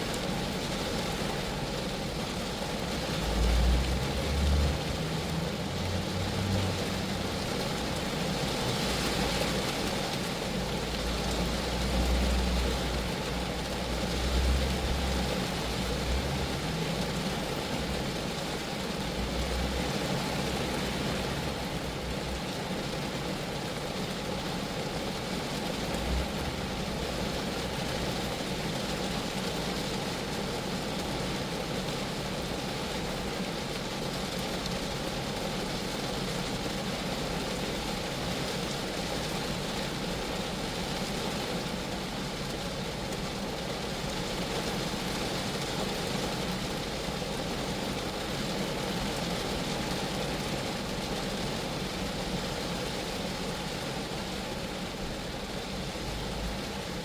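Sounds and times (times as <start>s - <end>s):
rain drumming on a car: 0.0s - 57.0s.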